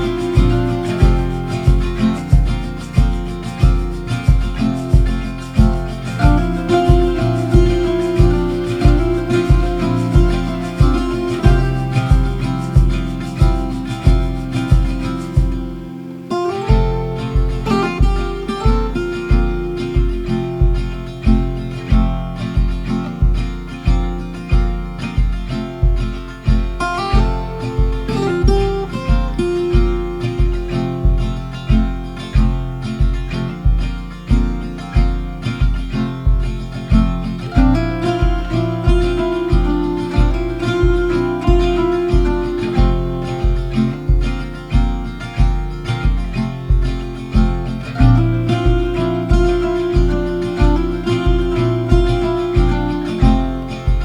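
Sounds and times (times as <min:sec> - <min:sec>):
acoustic guitar: 0:00.0 - 0:54.0
steady low beat: 0:00.0 - 0:54.0.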